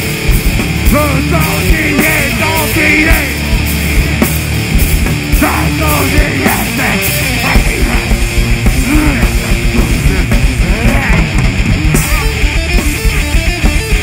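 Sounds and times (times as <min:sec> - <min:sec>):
heavy rock band playing: 0:00.0 - 0:14.0.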